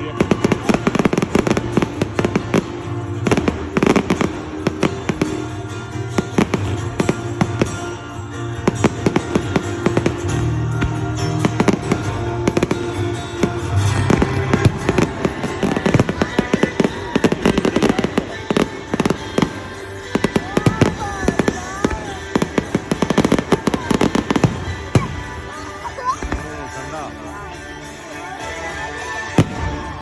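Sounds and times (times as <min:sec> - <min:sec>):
fireworks exploding: 0:00.0 - 0:27.0
music playing: 0:00.0 - 0:30.0.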